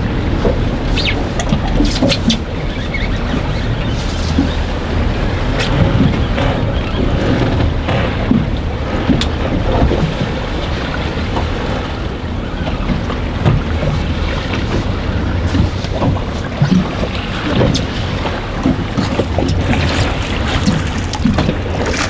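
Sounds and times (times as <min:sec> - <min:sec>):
water washing against boat: 0:00.0 - 0:22.0
wind buffeting microphone: 0:00.0 - 0:22.0.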